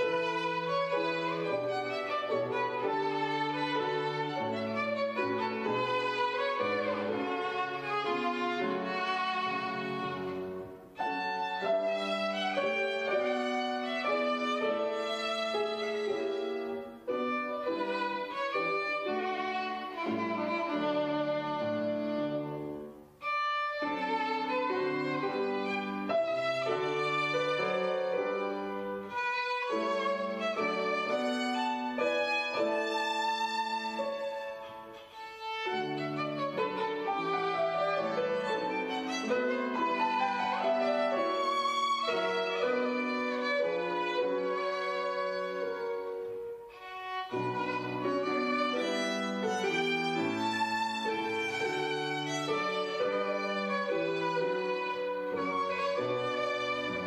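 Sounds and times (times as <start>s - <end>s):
grand piano accompaniment: 0.0s - 57.0s
solo violin: 0.0s - 57.0s.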